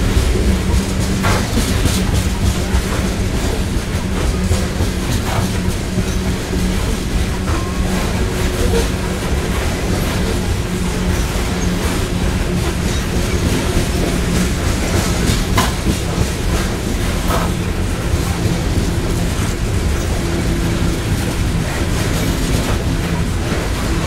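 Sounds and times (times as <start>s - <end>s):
freight train rumbling past: 0.0s - 24.0s
wheels clacking over rail joints: 0.0s - 24.0s.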